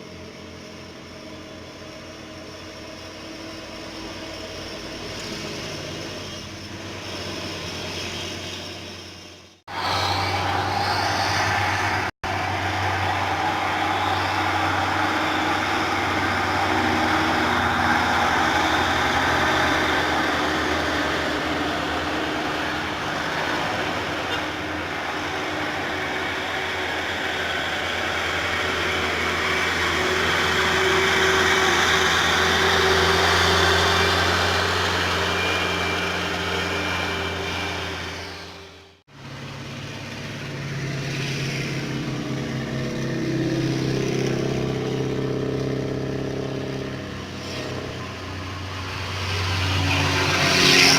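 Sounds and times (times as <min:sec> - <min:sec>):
diesel truck engines droning: 0:00.0 - 0:50.9.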